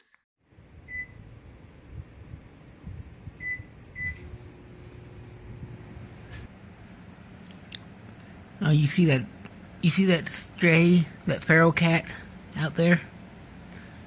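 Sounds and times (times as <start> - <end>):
low rumble of room noise: 0.4 - 14.0
steady low hum: 0.5 - 14.0.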